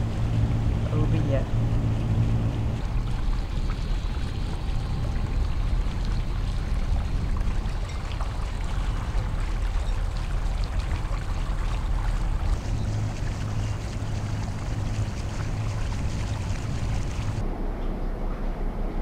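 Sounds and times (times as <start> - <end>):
water wash: 0.0 - 17.4
boat engine drone: 0.0 - 19.0
wind noise: 0.0 - 19.0.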